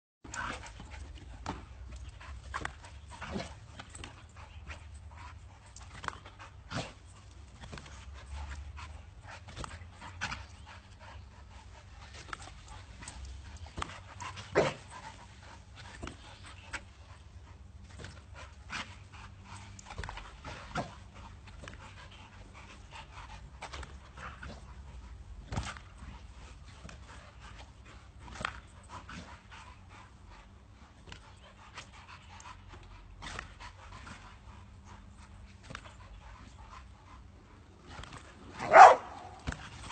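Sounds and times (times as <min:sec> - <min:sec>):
dog panting: 0:00.3 - 0:39.9
steady low hum: 0:00.3 - 0:39.9.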